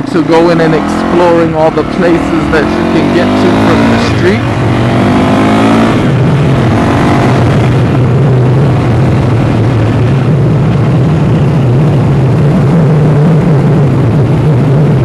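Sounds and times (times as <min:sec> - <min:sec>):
dirt bike engine running: 0:00.0 - 0:15.0
loud rush of noise: 0:00.0 - 0:15.0.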